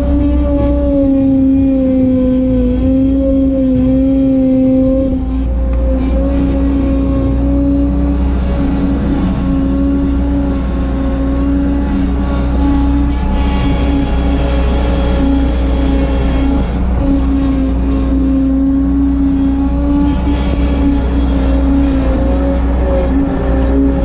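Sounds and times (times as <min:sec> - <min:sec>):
diesel engine at high throttle: 0:00.0 - 0:24.0.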